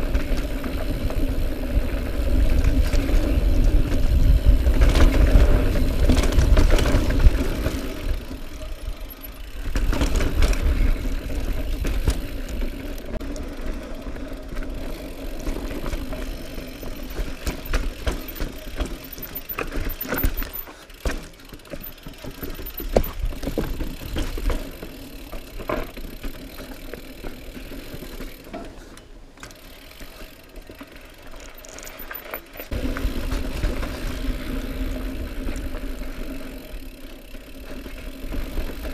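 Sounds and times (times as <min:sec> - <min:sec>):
bike knocking and rattling: 0:00.0 - 0:38.9
tyres rolling over dirt and rock: 0:00.0 - 0:38.9.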